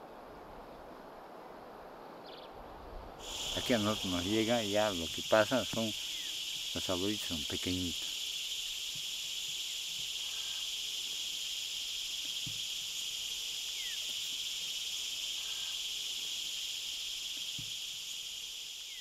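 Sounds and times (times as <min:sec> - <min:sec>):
high-pitched insect chorus: 0:03.2 - 0:19.0.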